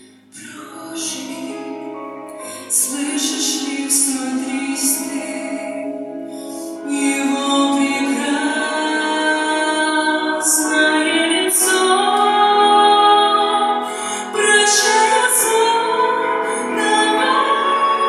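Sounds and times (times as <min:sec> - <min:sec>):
musical accompaniment: 0:00.0 - 0:18.0
woman singing slow song: 0:00.0 - 0:18.0.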